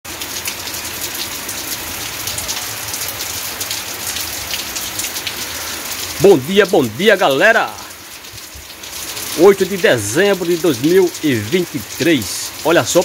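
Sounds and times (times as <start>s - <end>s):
rain on tile roofs: 0.1s - 13.0s.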